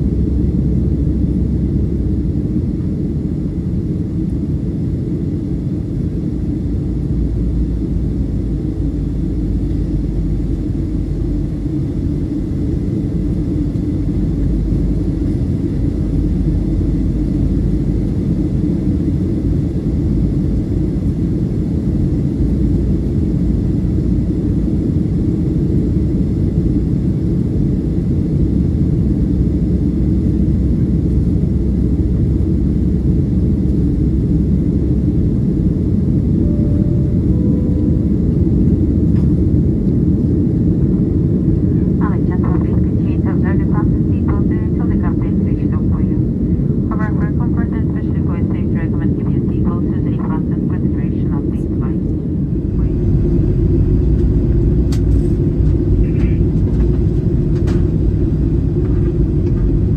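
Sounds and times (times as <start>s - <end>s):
airflow over fuselage: 0.0s - 59.9s
jet engines rumbling: 0.0s - 59.9s.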